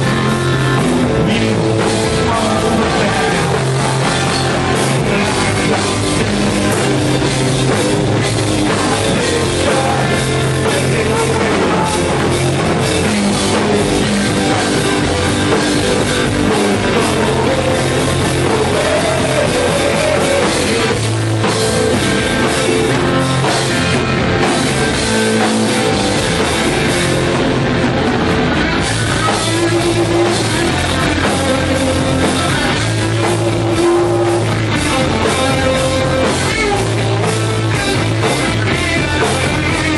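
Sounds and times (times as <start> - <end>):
punk rock band playing live: 0.0 - 39.9.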